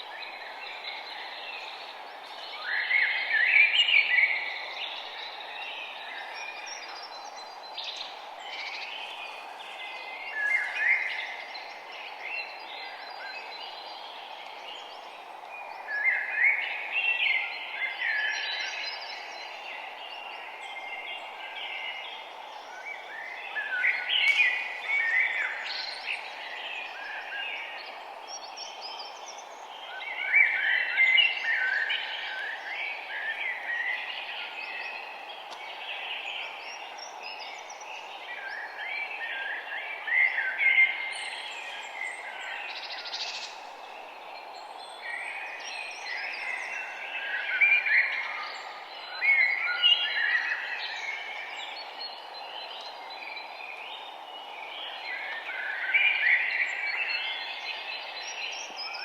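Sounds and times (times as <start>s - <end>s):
small birds chirping: 0.0s - 59.0s
steady background hiss: 0.0s - 59.0s.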